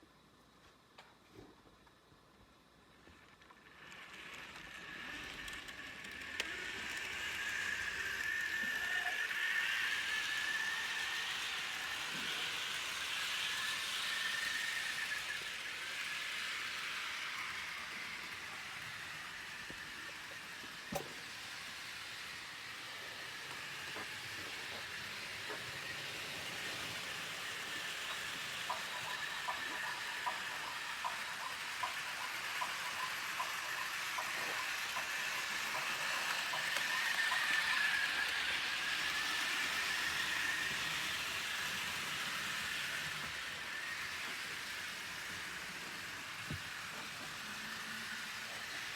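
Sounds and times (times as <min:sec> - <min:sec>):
model train whine and rumble: 0:00.0 - 0:48.9
wheels clicking over rail joints: 0:02.9 - 0:48.9.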